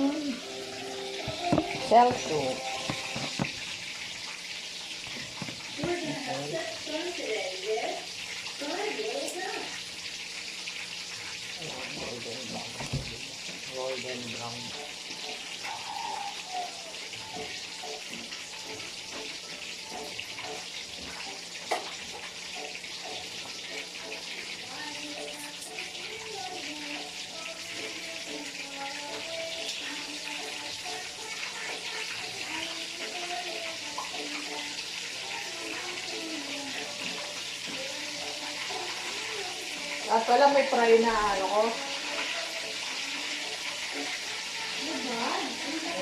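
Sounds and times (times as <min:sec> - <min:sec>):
chicken deep-frying in oil: 0:00.0 - 0:46.0.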